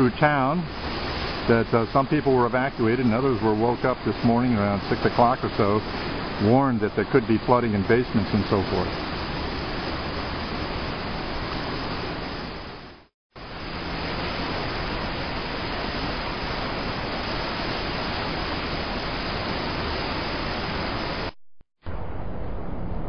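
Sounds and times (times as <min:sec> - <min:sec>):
churning floodwater rushing: 0:00.0 - 0:12.7, 0:13.4 - 0:21.3.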